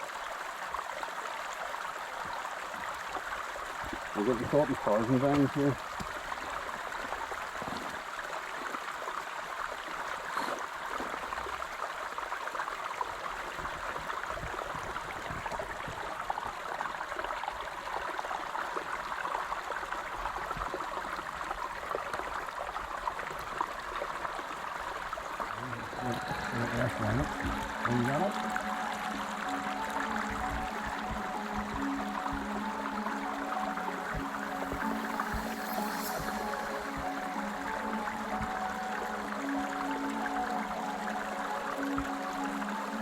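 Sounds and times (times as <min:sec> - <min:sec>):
water flowing over rocks: 0:00.0 - 0:43.0.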